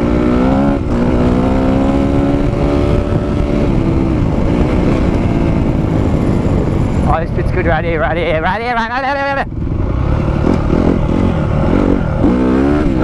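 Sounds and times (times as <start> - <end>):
dirt bike engine revving: 0.0 - 7.4, 9.4 - 13.0
steady low rumble: 0.5 - 13.0.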